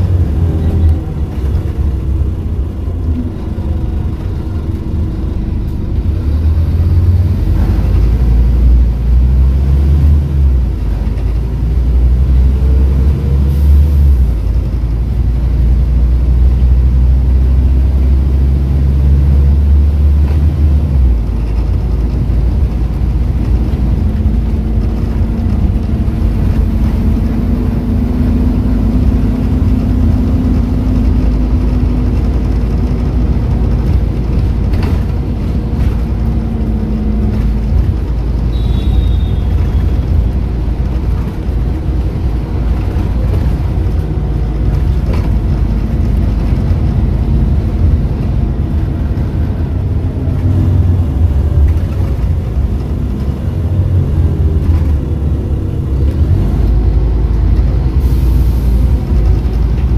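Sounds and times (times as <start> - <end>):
bus engine deep rumble: 0.0 - 59.9
road noise: 0.0 - 59.9.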